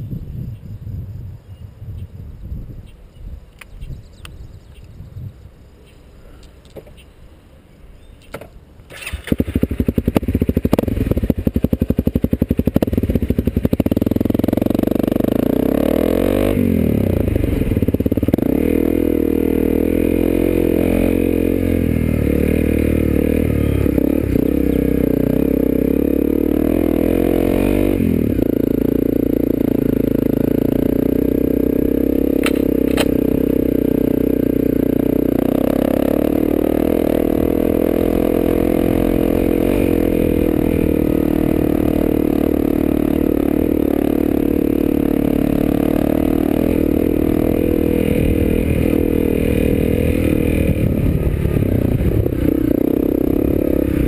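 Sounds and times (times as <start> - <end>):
dirt bike engine revving: 8.9 - 54.0.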